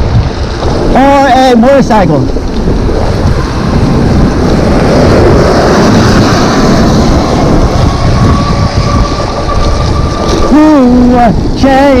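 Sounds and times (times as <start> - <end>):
tyres on wet road: 0.0 - 12.0
wind noise on microphone: 0.0 - 12.0.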